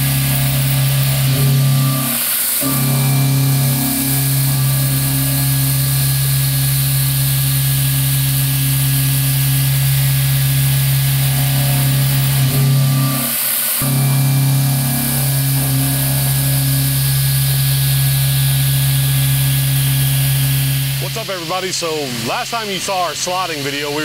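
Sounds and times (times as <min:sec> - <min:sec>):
milling machine cutting steel: 0:00.0 - 0:24.0.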